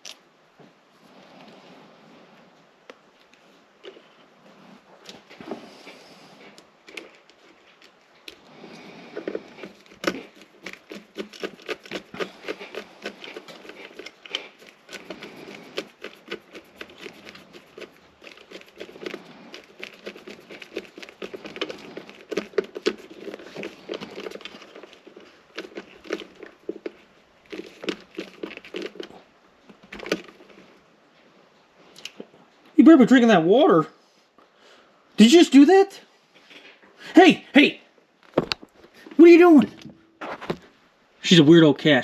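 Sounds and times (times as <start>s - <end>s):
crinkling and crackling of wires: 0.0s - 32.8s, 38.2s - 40.8s.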